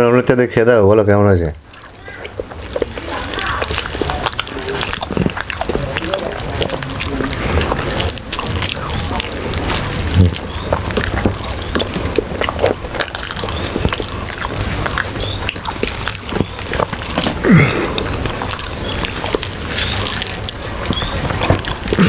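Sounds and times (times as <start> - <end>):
people chewing food: 1.3 - 22.0
clicks of food and fingers: 1.6 - 22.0
wet lip smacks: 1.6 - 22.0.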